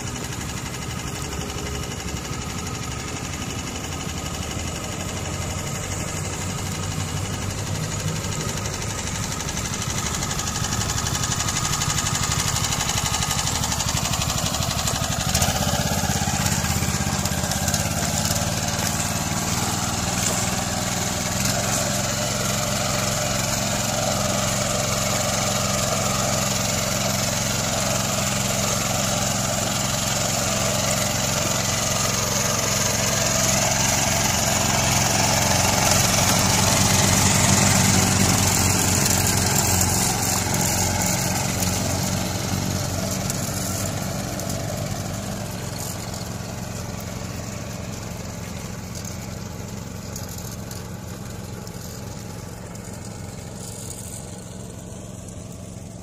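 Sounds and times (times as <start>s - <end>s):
rice transplanter engine running: 0.0s - 56.0s.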